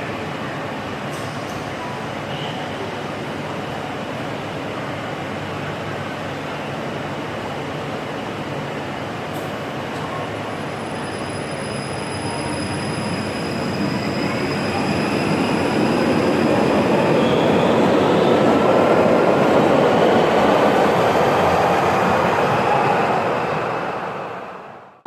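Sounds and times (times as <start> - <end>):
light-rail train rumble: 0.0 - 25.0.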